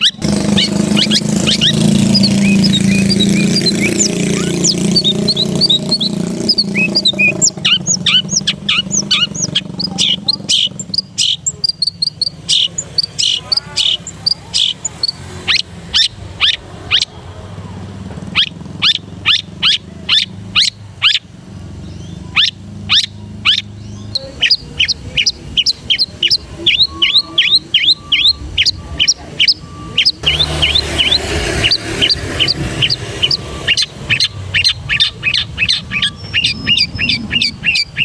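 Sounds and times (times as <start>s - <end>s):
bird singing sharp chips: 0.0s - 17.4s, 18.2s - 38.0s.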